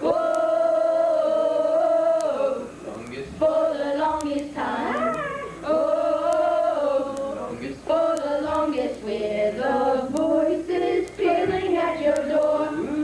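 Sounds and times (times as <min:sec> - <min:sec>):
boys singing a cappella: 0:00.0 - 0:13.0.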